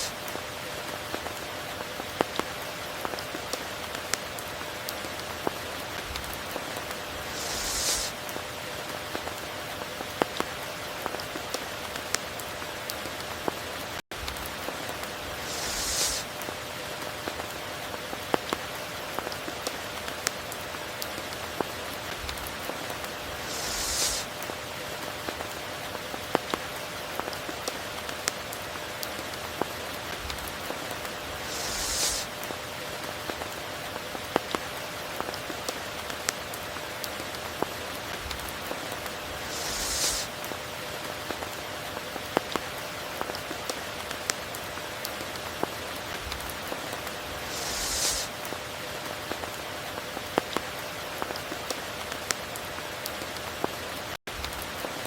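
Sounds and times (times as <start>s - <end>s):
raindrops ticking close by: 0.0s - 7.4s, 8.0s - 55.0s
steady rain: 0.0s - 55.0s.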